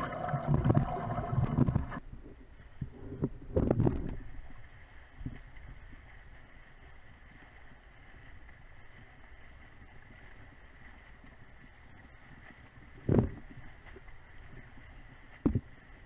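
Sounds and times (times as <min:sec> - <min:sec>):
muffled underwater swimming noise: 0:00.0 - 0:16.0.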